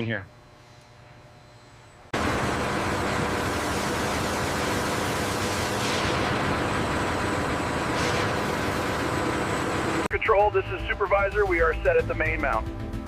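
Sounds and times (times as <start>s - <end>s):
low machinery hum: 0.0s - 12.4s.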